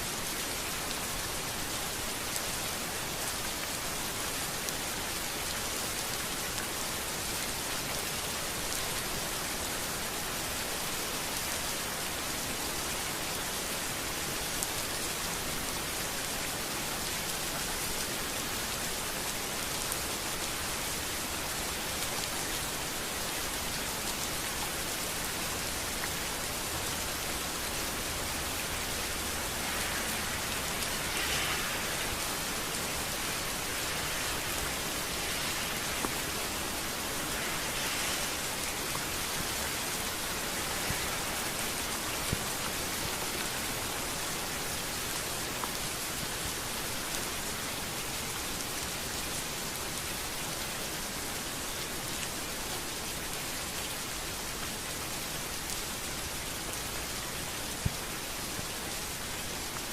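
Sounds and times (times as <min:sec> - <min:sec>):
rain hissing on street: 0:00.0 - 0:59.9.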